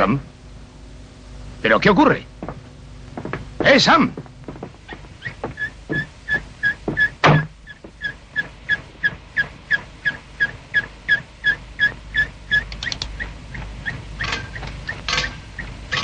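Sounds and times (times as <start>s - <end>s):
air conditioner squeaking: 1.6s - 16.0s.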